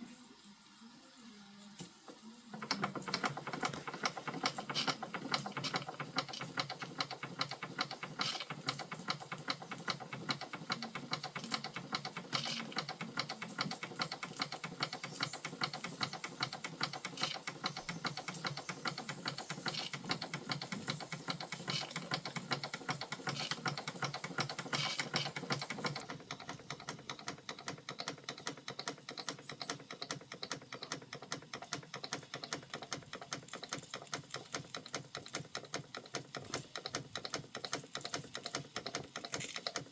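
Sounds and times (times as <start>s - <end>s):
steam engine mechanical clicking: 2.1s - 39.9s.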